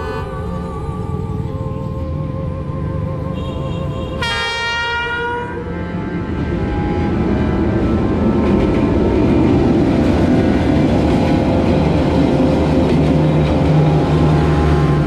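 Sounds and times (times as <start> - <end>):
locomotive engine passing: 0.0 - 15.0
train coaches rumbling on track: 0.0 - 15.0.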